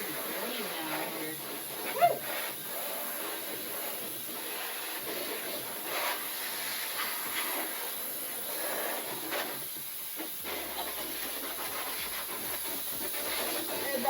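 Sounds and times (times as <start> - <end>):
air blower hiss: 0.0 - 14.0.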